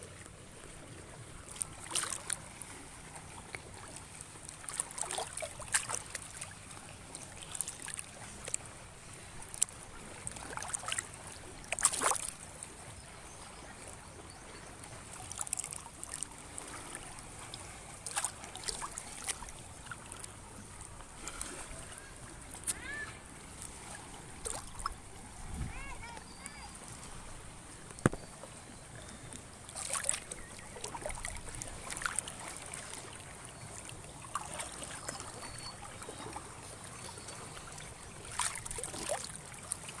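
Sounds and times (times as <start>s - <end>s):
sea water splashing against rocks: 1.1s - 12.8s, 15.0s - 20.4s, 21.2s - 28.4s, 29.7s - 35.4s, 37.4s - 40.0s.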